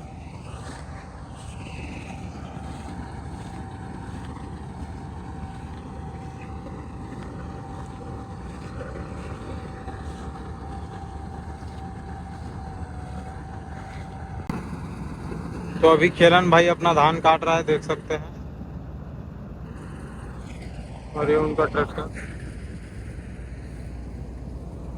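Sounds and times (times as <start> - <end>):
combine harvester diesel rumble: 0.0 - 24.9
constant machine whine: 0.0 - 24.9.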